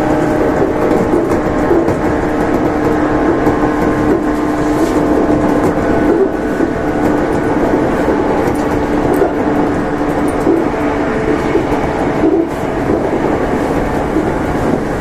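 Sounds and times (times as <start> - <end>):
train motors droning: 0.0 - 15.0
wheels rumbling on rails: 0.0 - 15.0.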